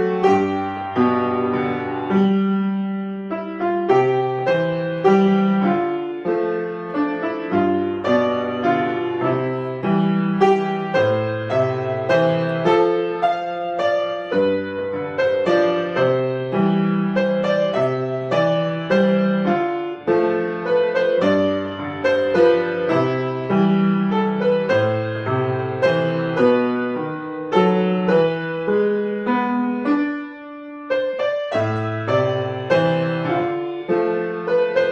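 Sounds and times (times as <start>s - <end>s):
solo piano piece: 0.0s - 34.9s.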